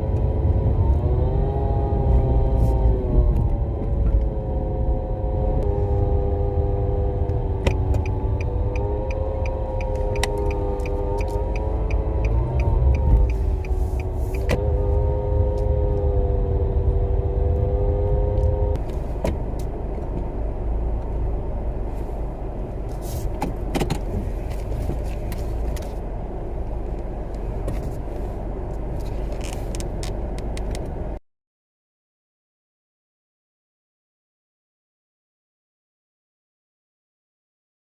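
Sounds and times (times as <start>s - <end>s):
car engine low rumble: 0.0s - 31.2s.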